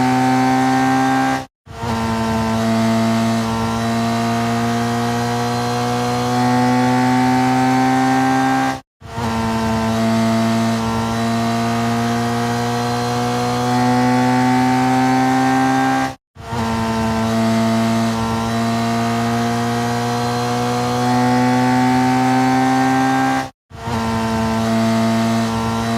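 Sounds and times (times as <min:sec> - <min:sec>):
racing motorcycle engine at high revs: 0:00.0 - 0:25.9.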